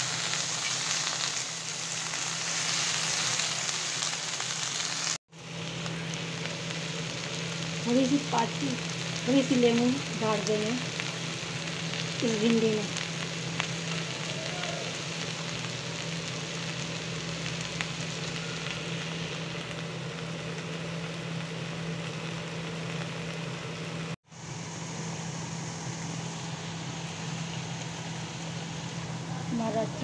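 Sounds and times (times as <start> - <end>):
okra and onions sizzling in oil: 0.0 - 30.0.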